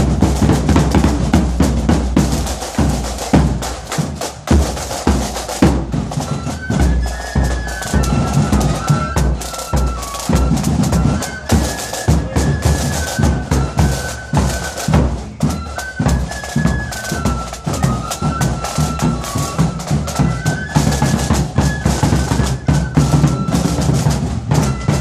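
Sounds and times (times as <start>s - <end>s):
flutes playing melody: 0.0s - 25.0s
snare drum beats: 0.0s - 25.0s.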